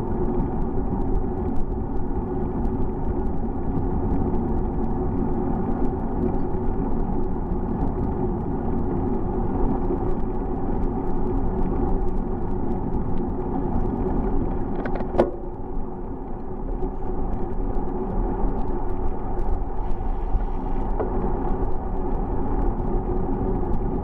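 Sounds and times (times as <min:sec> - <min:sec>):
bicycle rolling noise: 0:00.0 - 0:24.0
wind rumble: 0:00.0 - 0:24.0.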